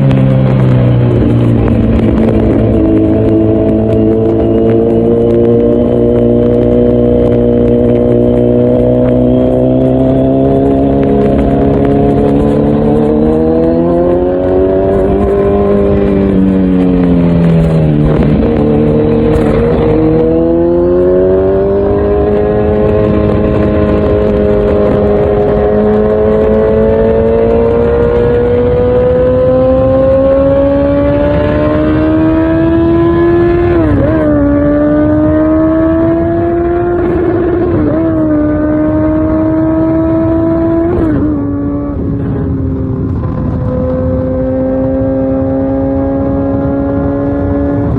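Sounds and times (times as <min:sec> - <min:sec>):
motorcycle engine revving: 0:00.0 - 0:47.9
motorcycle gear upshifts: 0:00.0 - 0:47.9.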